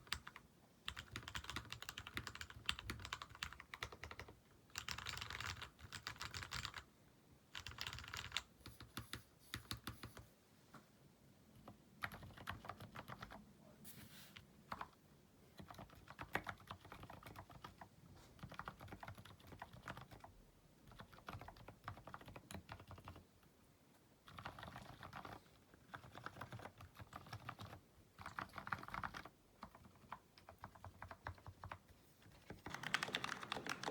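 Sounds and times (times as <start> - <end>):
mechanical keyboard typing: 0.0 - 6.9, 7.5 - 10.2, 11.6 - 13.4, 14.7 - 15.0, 15.6 - 23.2, 24.2 - 31.9, 32.5 - 33.9.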